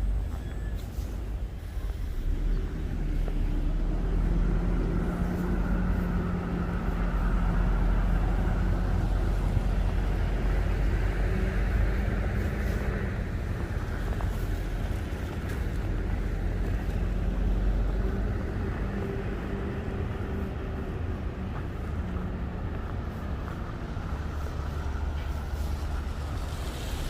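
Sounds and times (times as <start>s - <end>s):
traffic rumble: 0.0s - 27.0s
vehicle engine running close: 0.0s - 27.0s.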